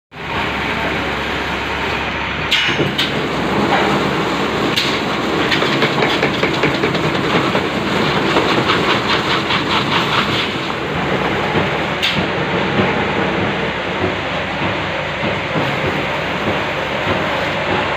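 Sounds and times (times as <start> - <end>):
machine running: 0.2 - 17.9.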